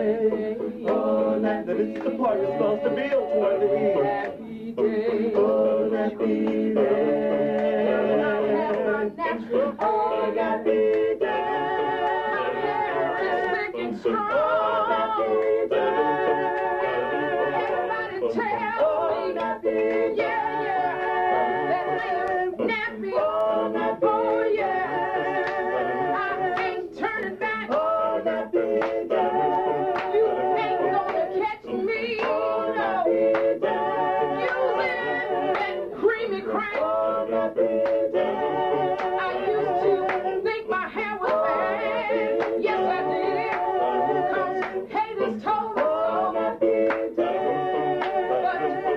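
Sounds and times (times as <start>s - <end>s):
man and woman singing: 0.0s - 48.9s.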